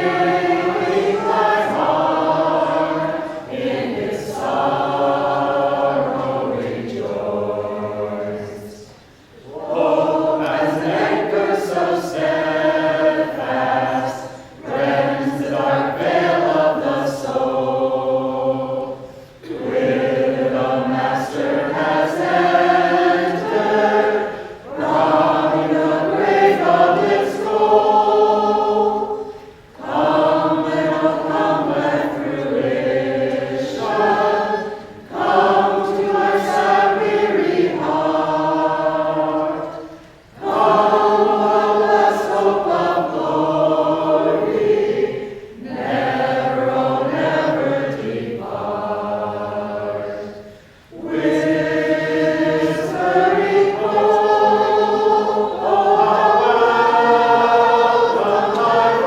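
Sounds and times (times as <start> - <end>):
vocal group singing in harmony: 0.0 - 59.0.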